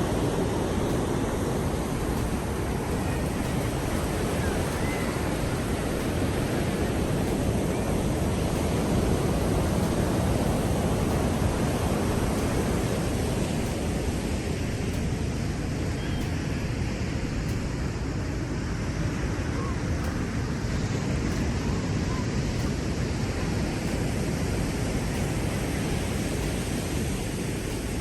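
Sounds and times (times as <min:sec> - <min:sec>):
heavy waves breaking: 0:00.0 - 0:28.0.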